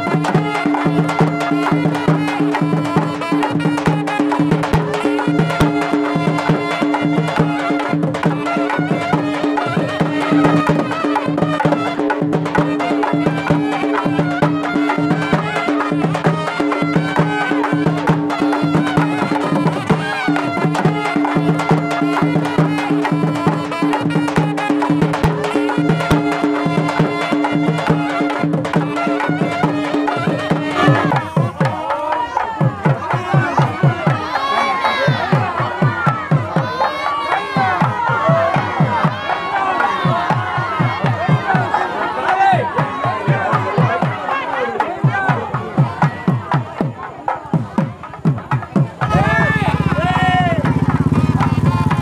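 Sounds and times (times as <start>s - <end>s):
wavering folk melody: 0.0s - 46.0s
drums beating: 0.0s - 52.0s.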